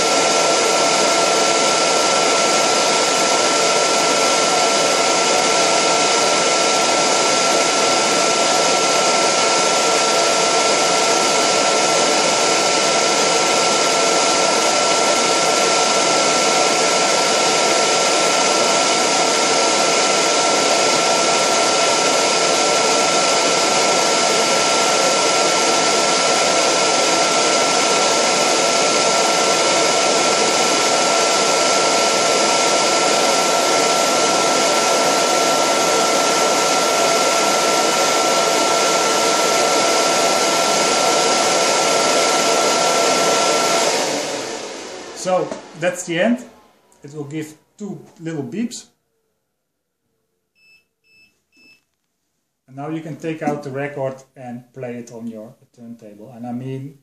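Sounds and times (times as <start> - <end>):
fans blowing air: 0.0 - 48.7, 52.8 - 53.8.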